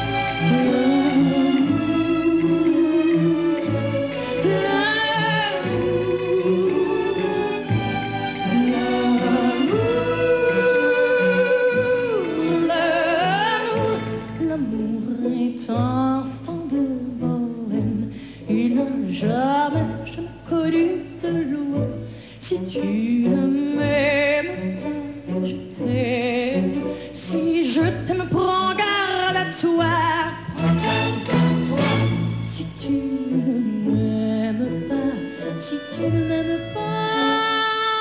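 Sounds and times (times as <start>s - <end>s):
woman singing into microphone: 0.0s - 7.6s, 8.4s - 30.7s, 31.8s - 38.0s
orchestral accompaniment: 0.0s - 38.0s.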